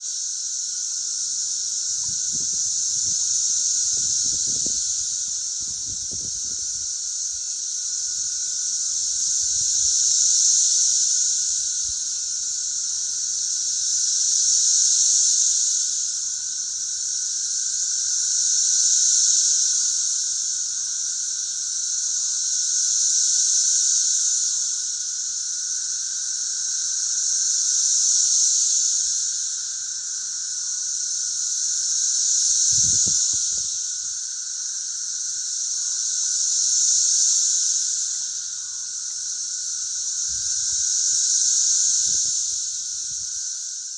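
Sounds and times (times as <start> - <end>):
cicadas buzzing: 0.0 - 43.9.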